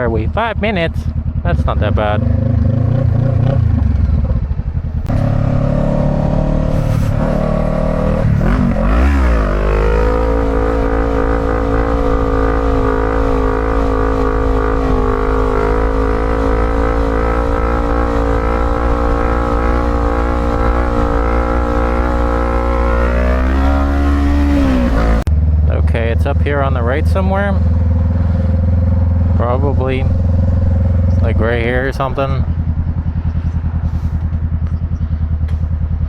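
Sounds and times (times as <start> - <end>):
motorcycle engine: 0.0 - 36.0.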